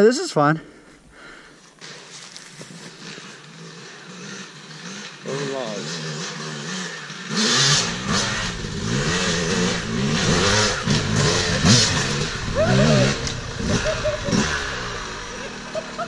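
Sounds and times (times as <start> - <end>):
dirt bike engines revving: 1.3 - 16.0.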